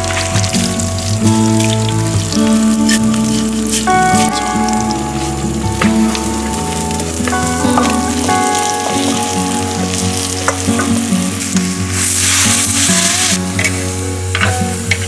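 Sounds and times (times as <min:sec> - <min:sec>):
food sizzling in a pot: 0:00.0 - 0:15.0
water hissing in hot pot: 0:00.0 - 0:15.0.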